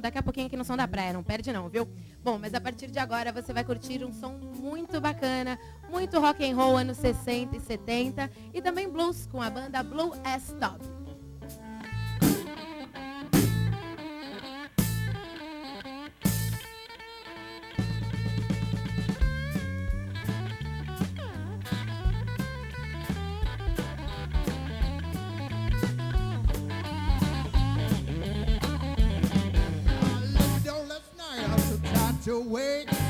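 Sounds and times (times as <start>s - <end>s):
blues band playing: 0.9s - 33.0s
electric guitar lines: 1.6s - 33.0s.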